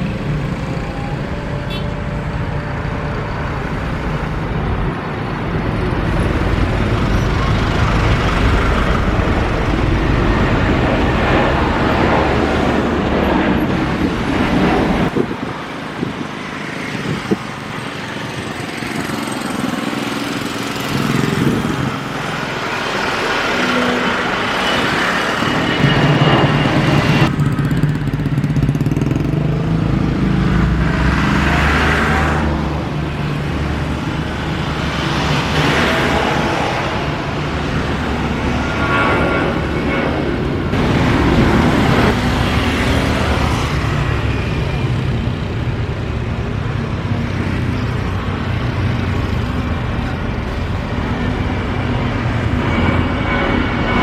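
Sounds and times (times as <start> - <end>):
engine noise: 0.0 - 54.0
traffic noise: 0.0 - 54.0.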